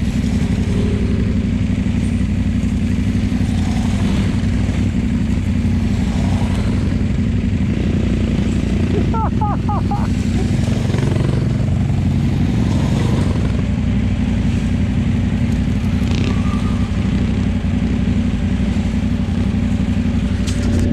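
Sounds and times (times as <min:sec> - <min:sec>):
dirt bike engine idling: 0:00.0 - 0:20.9
trail bikes running: 0:00.0 - 0:20.9.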